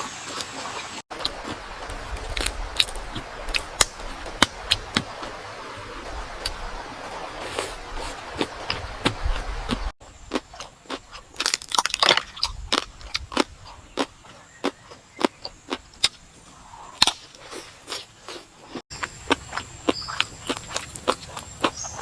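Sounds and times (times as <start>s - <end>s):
crunchy chewing of crisp food: 0.0s - 5.3s, 7.4s - 22.0s.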